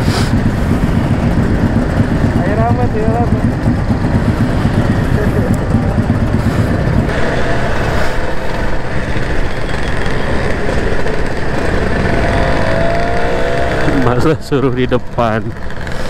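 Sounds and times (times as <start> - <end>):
motorcycle engine running: 0.0 - 16.0
scooters and cars in traffic: 0.0 - 16.0.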